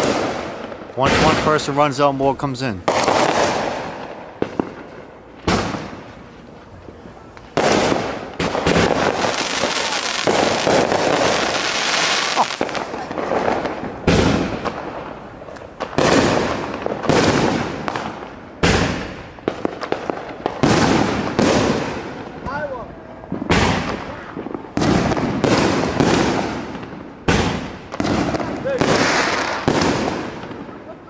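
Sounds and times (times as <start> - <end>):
fireworks bangs echoing: 0.0 - 31.0
fireworks crackling: 0.0 - 31.0.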